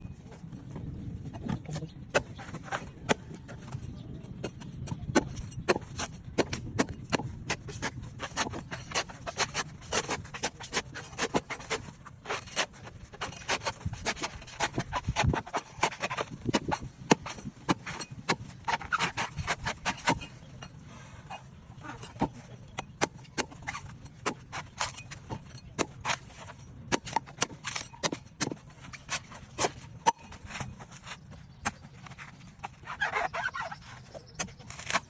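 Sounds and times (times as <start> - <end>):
knife cutting coconut husk: 4.4 - 20.5, 22.0 - 35.0.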